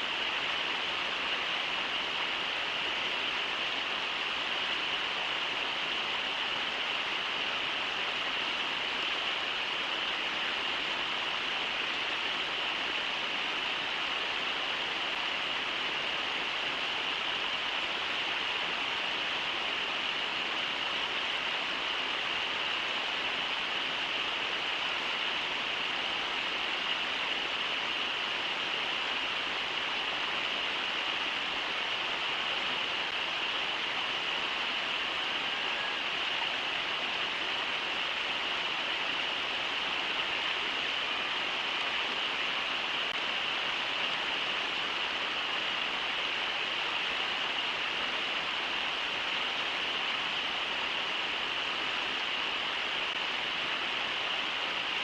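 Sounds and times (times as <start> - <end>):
river water running over rocks: 0.0 - 55.0.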